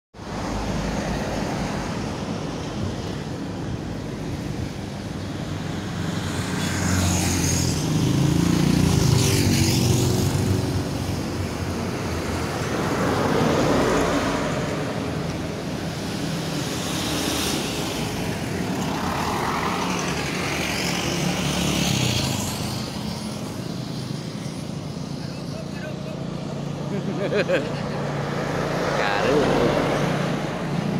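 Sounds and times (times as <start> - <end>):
heavy vehicles passing on highway: 0.2 - 30.9.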